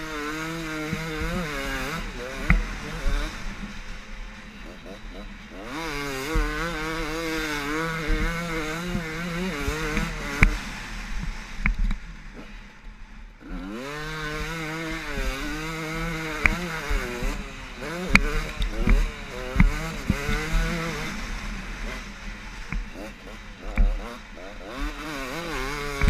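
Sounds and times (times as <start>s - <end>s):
motocross engine revving hard: 0.0s - 11.6s, 13.3s - 26.0s.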